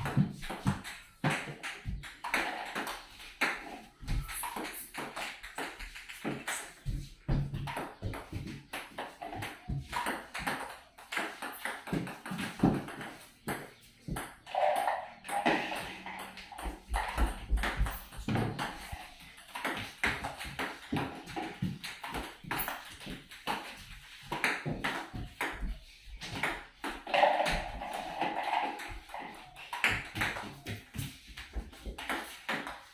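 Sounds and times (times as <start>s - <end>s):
table tennis ball bouncing: 0.0s - 32.9s.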